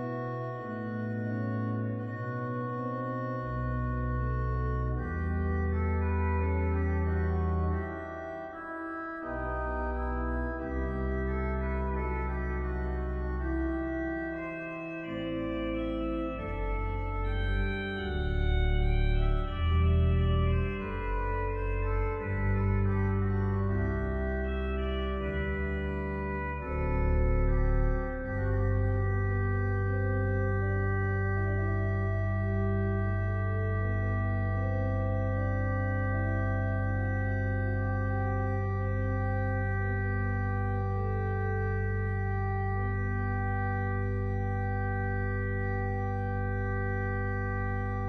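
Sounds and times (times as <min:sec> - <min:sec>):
deep organ pedal bass notes: 0:00.0 - 0:48.0
organ chords: 0:00.0 - 0:48.0.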